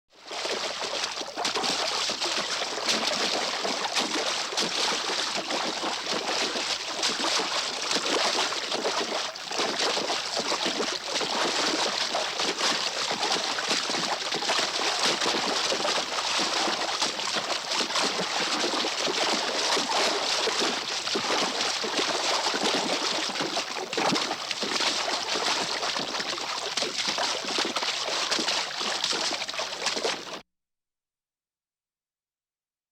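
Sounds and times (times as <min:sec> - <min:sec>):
horses splashing through water: 0:00.2 - 0:30.4.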